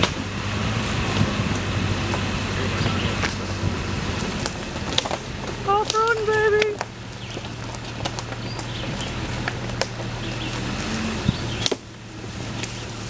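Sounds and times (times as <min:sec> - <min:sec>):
car engine running: 0:00.0 - 0:13.0
tyres knocking over stones: 0:01.0 - 0:11.9.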